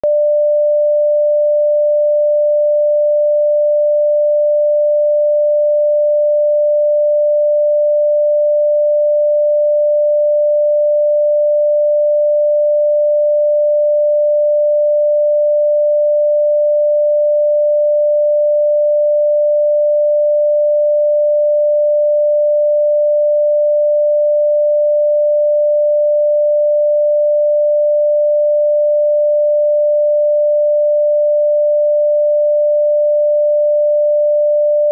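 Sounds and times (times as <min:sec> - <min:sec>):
electronic sine tone: 0:00.0 - 0:34.9.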